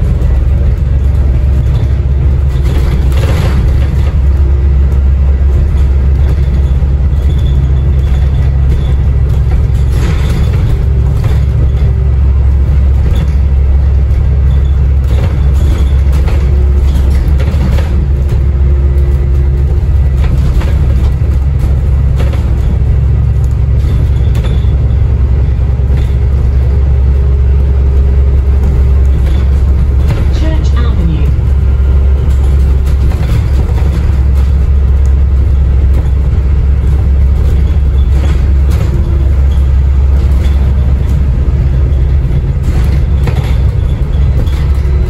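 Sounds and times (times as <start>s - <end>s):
bus engine and road rumble: 0.0s - 45.0s
knocks and rattles: 0.0s - 45.0s.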